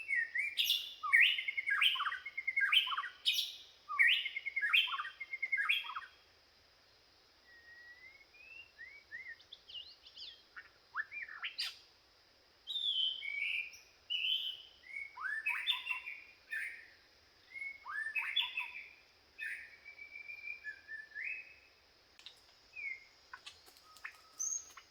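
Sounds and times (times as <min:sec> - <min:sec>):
bird singing whistled phrases: 0:00.0 - 0:06.2, 0:07.5 - 0:11.8, 0:12.7 - 0:16.9, 0:17.5 - 0:21.7, 0:22.7 - 0:23.1, 0:23.8 - 0:24.9
faint high hiss: 0:00.0 - 0:24.9.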